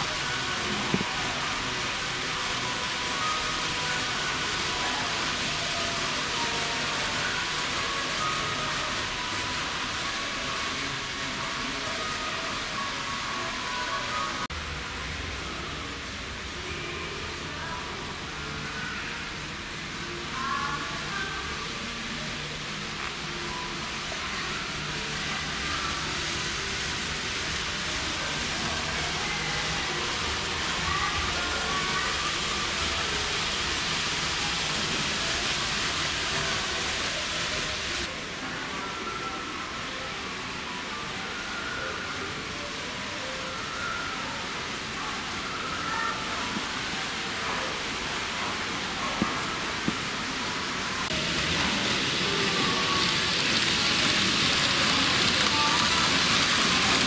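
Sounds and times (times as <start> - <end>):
model train wheels rolling: 0.0 - 14.5, 17.4 - 38.1, 41.3 - 57.0.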